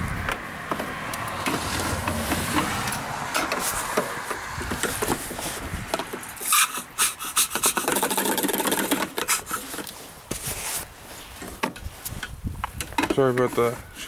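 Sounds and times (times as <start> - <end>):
plastic rubbing scraping and clicking: 0.2 - 14.0.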